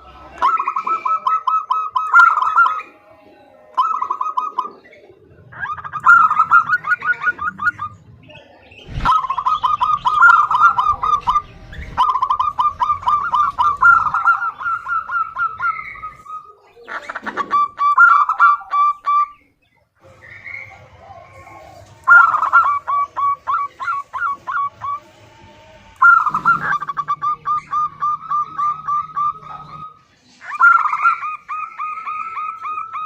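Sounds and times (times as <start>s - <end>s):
dove cooing rapidly: 0.0s - 2.9s, 3.8s - 19.4s, 20.1s - 25.0s, 26.0s - 33.0s.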